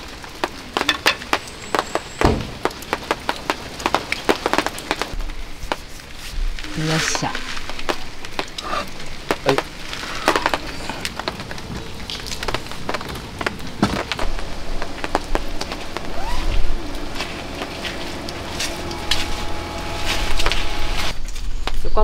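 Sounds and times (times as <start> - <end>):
sharp drips: 0.0 - 5.9, 6.6 - 20.6
rain pattering on a tarp: 0.0 - 22.0.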